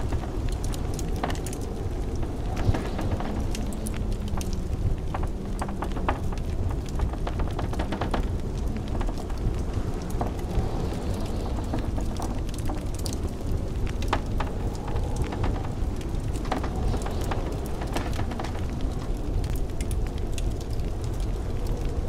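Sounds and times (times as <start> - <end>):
blizzard wind rushing: 0.0 - 22.0
wood fire crackling and popping: 0.0 - 22.0.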